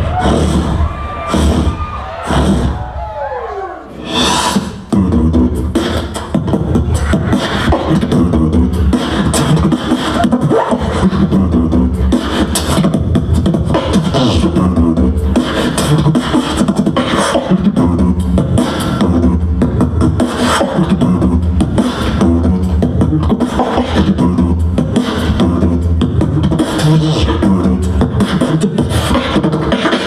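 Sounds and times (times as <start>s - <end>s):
beatboxing through a microphone: 0.0s - 3.0s, 3.9s - 30.0s.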